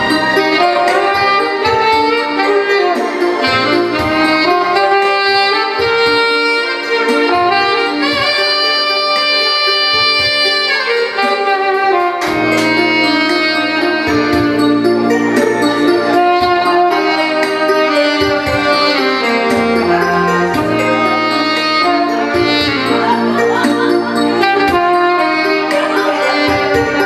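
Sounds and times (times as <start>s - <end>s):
alto saxophone melody: 0.0s - 27.0s
backing track: 0.0s - 27.0s.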